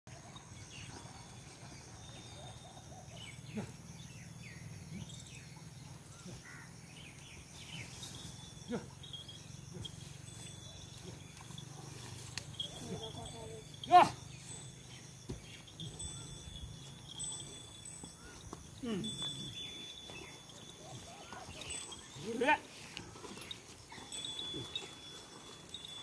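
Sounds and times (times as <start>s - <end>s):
birds chirping: 0.1s - 26.0s.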